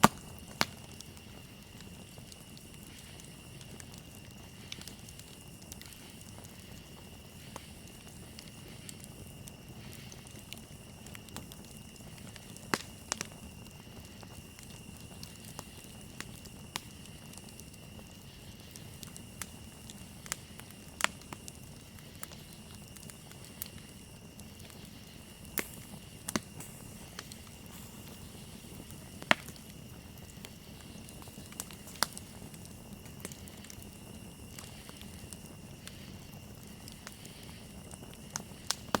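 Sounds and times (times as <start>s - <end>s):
campfire crackling and popping: 0.0s - 39.0s
crickets chirring: 0.0s - 39.0s.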